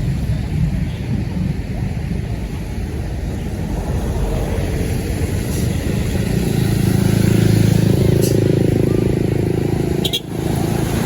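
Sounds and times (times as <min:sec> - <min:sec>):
heavy vehicle engine approaching: 0:00.0 - 0:11.0
roadside traffic rumble: 0:00.0 - 0:11.0.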